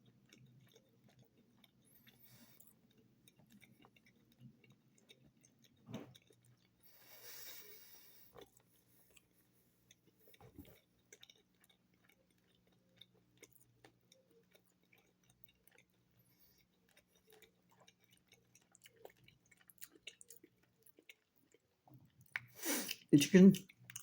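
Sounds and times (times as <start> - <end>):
mouth chewing: 0.0 - 24.0.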